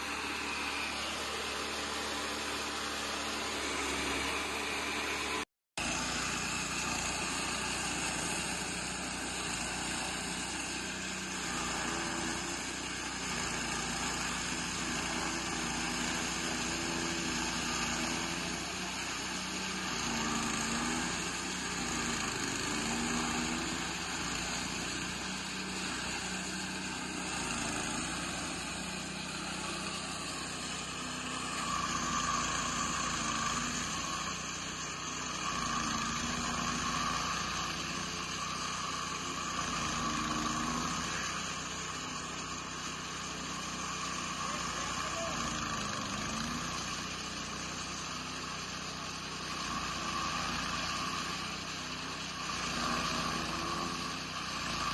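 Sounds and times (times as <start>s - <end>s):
chaff cutter machine droning: 0.0s - 54.9s.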